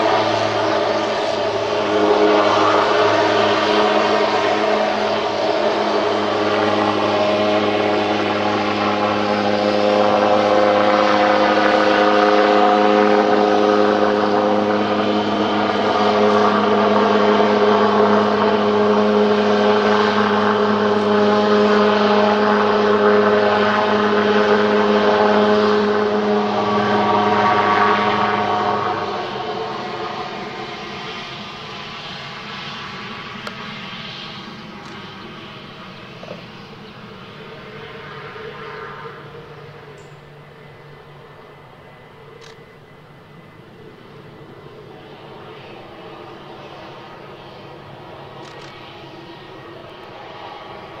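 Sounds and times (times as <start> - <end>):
turboprop engine and propeller: 0.0 - 51.0.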